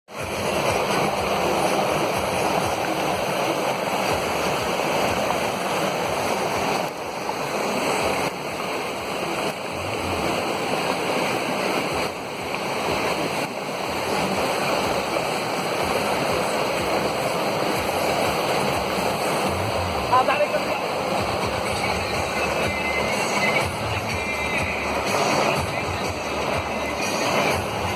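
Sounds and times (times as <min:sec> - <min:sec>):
rushing water: 0:00.1 - 0:27.9.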